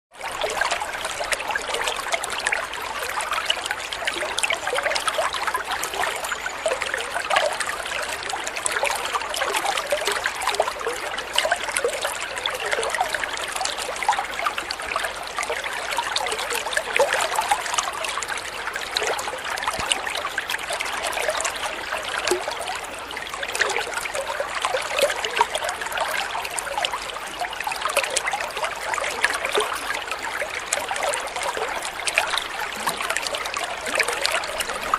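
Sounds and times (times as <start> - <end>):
water trickling and burbling: 0.1 - 34.9.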